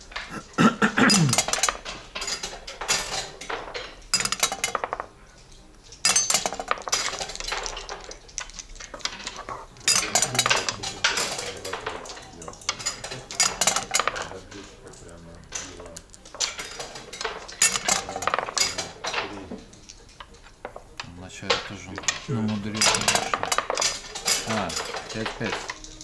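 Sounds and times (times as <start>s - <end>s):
checkers clacking on a board: 0.0s - 26.0s.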